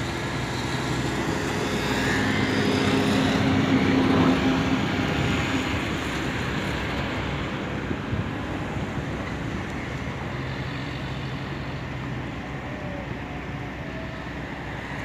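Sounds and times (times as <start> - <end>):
outdoor traffic noise: 0.0 - 15.0
passing vehicle engine hum: 0.0 - 15.0.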